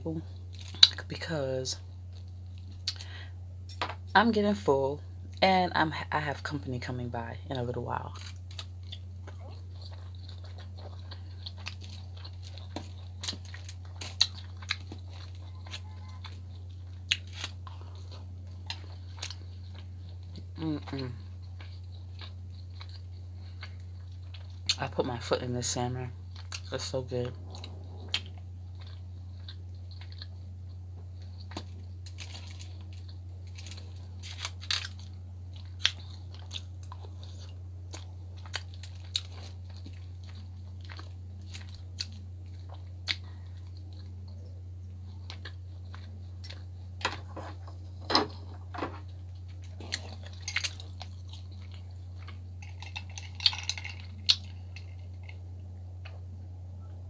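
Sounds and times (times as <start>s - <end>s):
steady low hum: 0.0s - 57.0s
chewing food: 0.2s - 4.0s, 7.6s - 57.0s.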